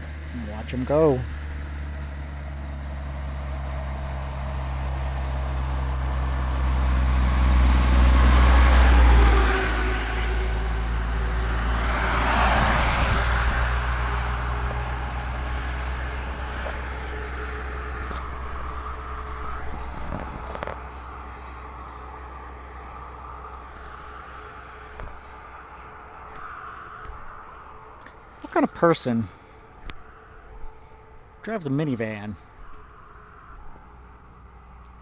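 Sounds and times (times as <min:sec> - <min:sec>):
truck engine drone: 0:00.0 - 0:35.0
tyre and road noise: 0:00.0 - 0:35.0.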